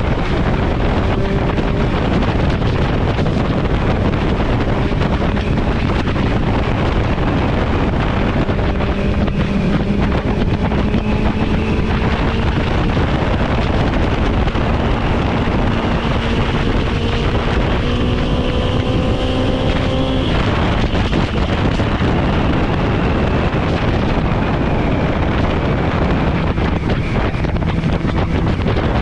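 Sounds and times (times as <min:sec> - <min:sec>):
motorcycle engine running: 0:00.0 - 0:29.0
wind on microphone: 0:00.0 - 0:29.0.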